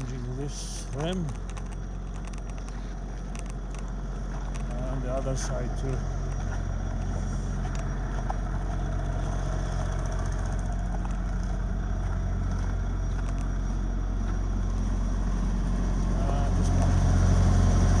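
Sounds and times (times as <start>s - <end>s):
car engine humming: 0.0s - 18.0s.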